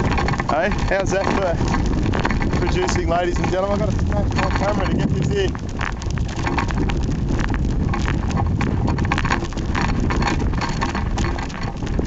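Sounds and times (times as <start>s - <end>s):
camera knocking and crackling: 0.0s - 12.0s
wind buffeting microphone: 0.0s - 12.0s.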